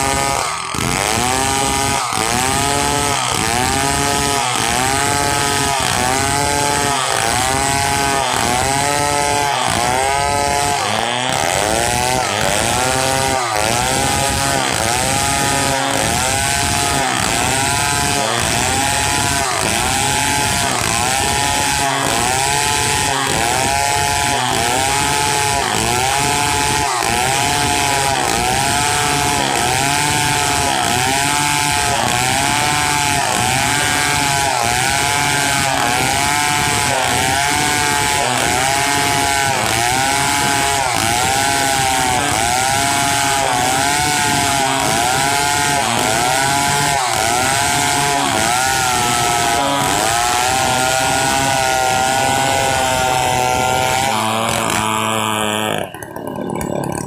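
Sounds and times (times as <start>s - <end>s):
chainsaw sawing wood: 0.0s - 57.0s.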